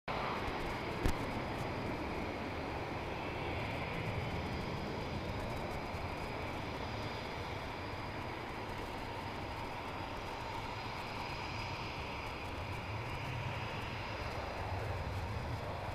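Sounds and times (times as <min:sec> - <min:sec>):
high engine whine: 0:00.1 - 0:15.9
jet engines rumbling: 0:00.1 - 0:15.9.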